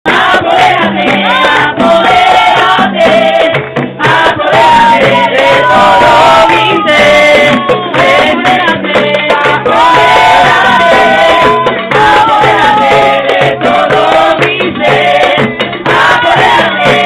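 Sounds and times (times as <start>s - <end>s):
loud music with singing: 0.1s - 17.0s.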